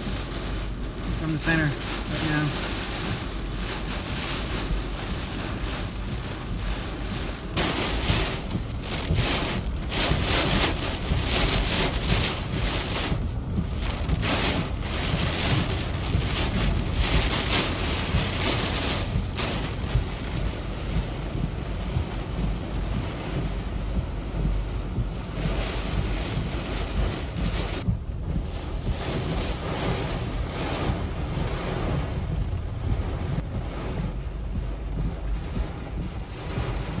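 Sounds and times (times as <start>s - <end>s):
driving rain: 0.0s - 37.0s
strong wind gusts: 0.0s - 37.0s.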